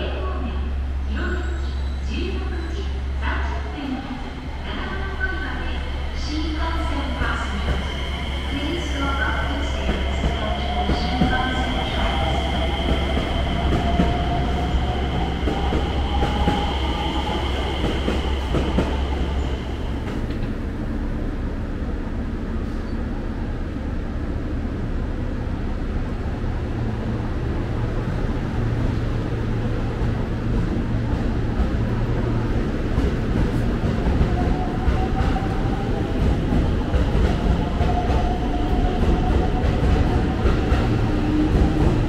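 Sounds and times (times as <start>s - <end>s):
electric train hum and rumble: 0.0s - 42.0s.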